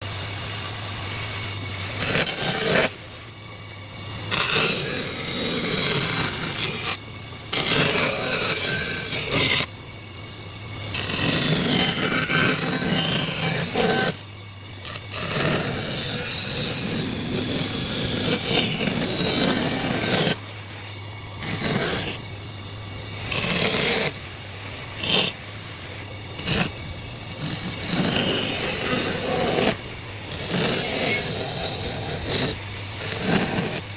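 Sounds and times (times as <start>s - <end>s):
steady low hum: 0.0s - 33.9s
hand tool scraping wood: 1.2s - 3.0s, 4.2s - 9.7s, 10.8s - 14.2s, 14.8s - 20.5s, 21.4s - 22.3s, 23.1s - 24.2s, 24.8s - 33.9s.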